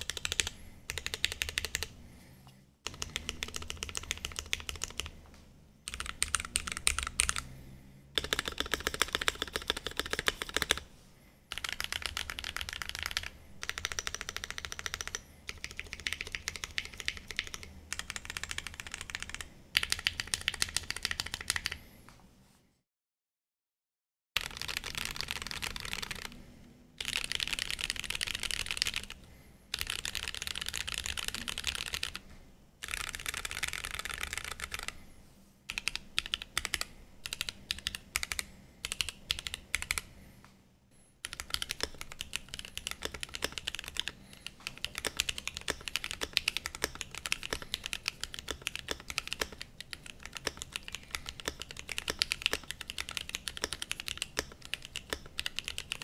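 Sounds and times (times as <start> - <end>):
typing on mechanical keyboard: 0.0 - 1.9, 2.8 - 5.2, 5.9 - 7.5, 8.2 - 10.8, 11.5 - 21.8, 24.4 - 26.4, 27.0 - 32.2, 32.8 - 35.0, 35.7 - 40.1, 41.2 - 56.0.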